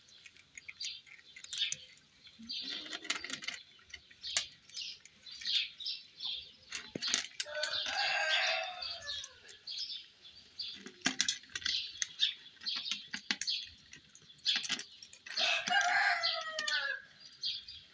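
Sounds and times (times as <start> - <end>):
bird calls: 0.0 - 17.9.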